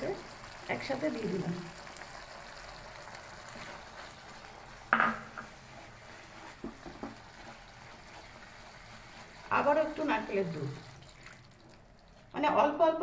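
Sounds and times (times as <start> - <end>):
stirring paste in frying pan: 1.8 - 12.3.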